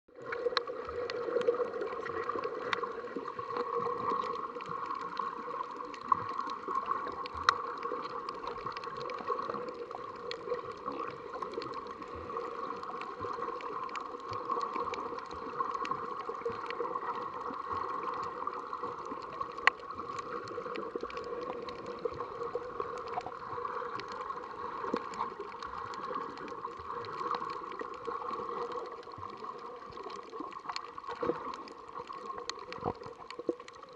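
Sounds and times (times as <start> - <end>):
muffled underwater water noise: 0.1 - 33.9
small crackling clicks: 0.2 - 33.9.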